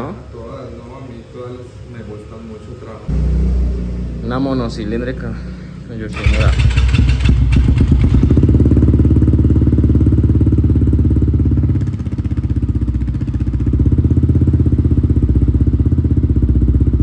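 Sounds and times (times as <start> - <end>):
motorcycle engine idling: 3.1 - 17.0.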